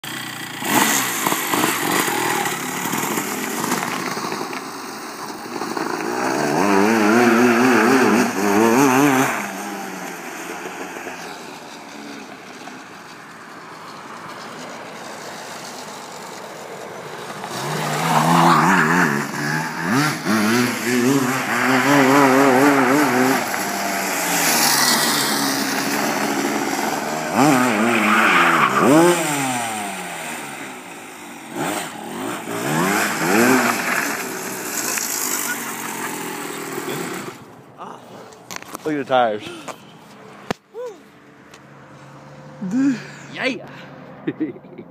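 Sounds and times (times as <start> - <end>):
go-kart engine revving: 0.0 - 37.7.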